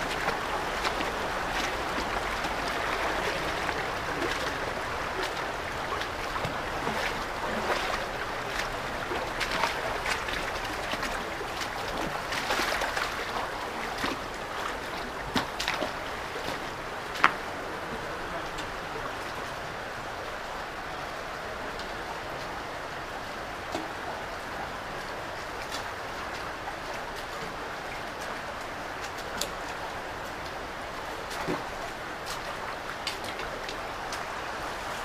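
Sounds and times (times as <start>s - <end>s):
footsteps wading through water: 0.0s - 20.2s, 20.8s - 35.0s
creek rushing over stones: 0.0s - 35.0s.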